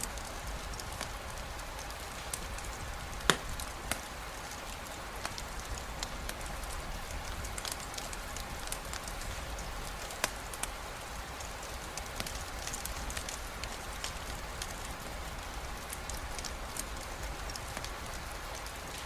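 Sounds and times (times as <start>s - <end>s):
campfire crackling: 0.0s - 19.0s
steady rain: 0.0s - 19.0s.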